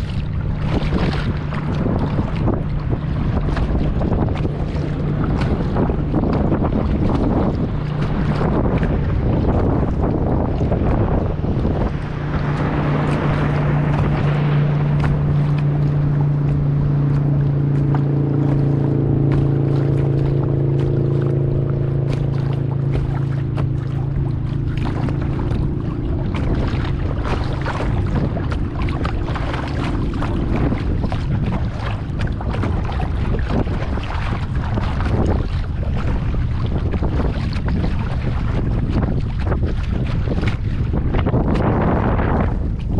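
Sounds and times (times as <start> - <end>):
boat engine droning: 0.0 - 42.9
water slapping kayak hull: 0.0 - 42.9
wind buffeting microphone: 0.0 - 42.9.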